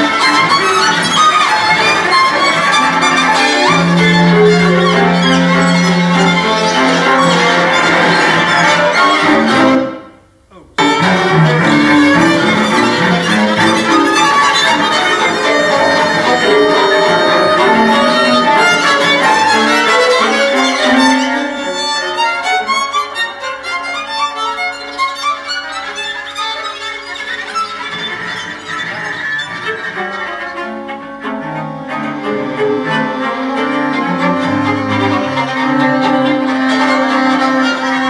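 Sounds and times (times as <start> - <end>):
string music over speakers: 0.0 - 10.1, 10.8 - 38.0.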